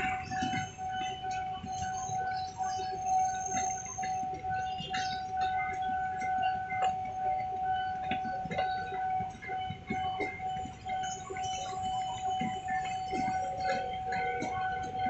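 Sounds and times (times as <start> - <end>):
electric train passing: 0.0 - 15.0
level crossing warning alarm: 0.0 - 15.0
traffic rumble: 0.0 - 15.0.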